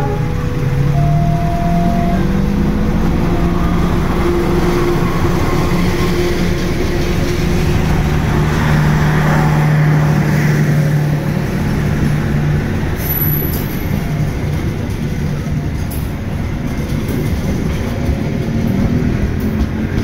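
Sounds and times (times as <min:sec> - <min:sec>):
diesel locomotive engine passing: 0:00.0 - 0:20.0
train coaches rolling on rails: 0:00.0 - 0:20.0.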